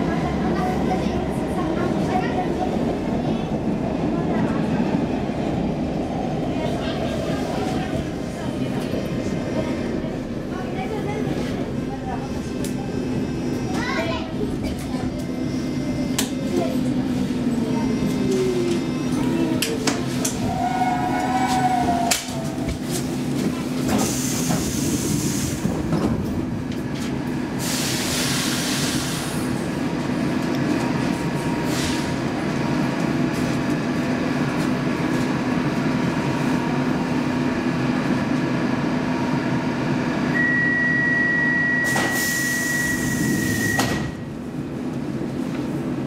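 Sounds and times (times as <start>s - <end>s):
train equipment hum: 0.0s - 46.0s.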